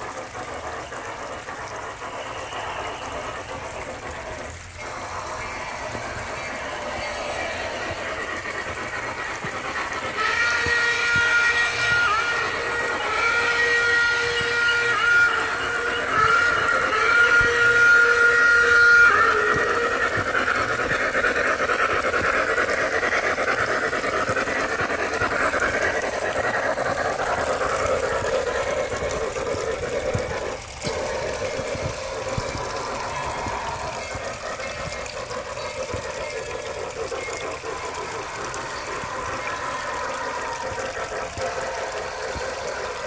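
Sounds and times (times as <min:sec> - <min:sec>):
steam hiss and chuffing: 0:00.0 - 0:43.0
steam whistle blast: 0:00.0 - 0:43.0.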